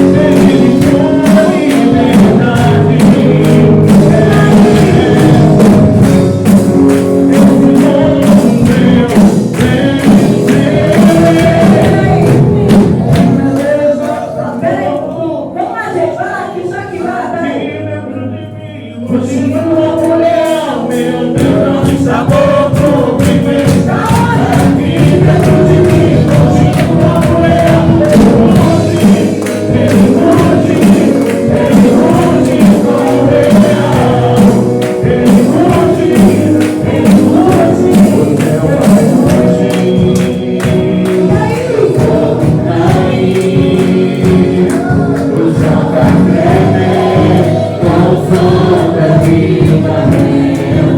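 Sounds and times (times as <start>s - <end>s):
choir singing praise songs: 0.0s - 50.9s
gospel band playing: 0.0s - 50.9s.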